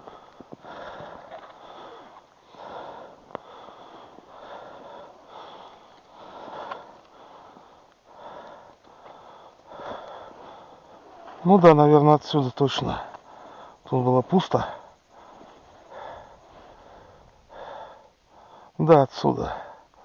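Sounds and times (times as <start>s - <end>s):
person breathing heavily: 0.0s - 18.8s, 19.4s - 20.0s.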